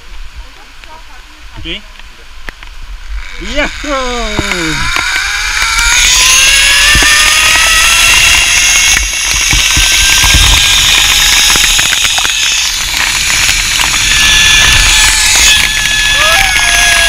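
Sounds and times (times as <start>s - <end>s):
zipline pulleys whining: 3.0s - 17.0s.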